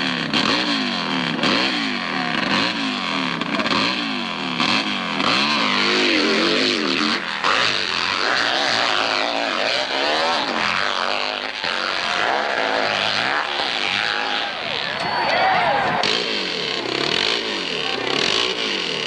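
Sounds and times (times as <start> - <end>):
motorcycle engine revving hard: 0.0 - 19.0.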